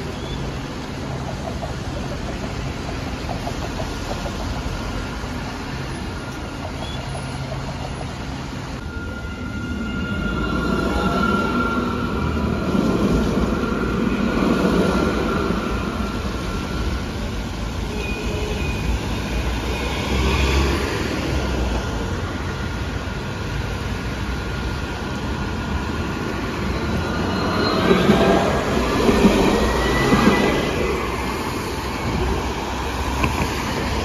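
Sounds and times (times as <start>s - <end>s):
tram electric whine: 0.0s - 34.0s
wheel-on-rail noise: 0.0s - 34.0s.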